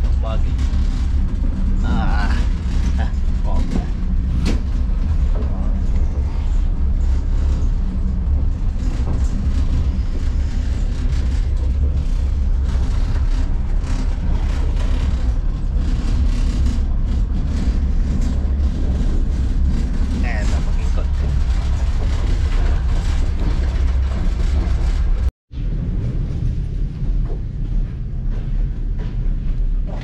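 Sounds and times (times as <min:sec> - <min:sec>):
train carriage rumbling: 0:00.0 - 0:30.0.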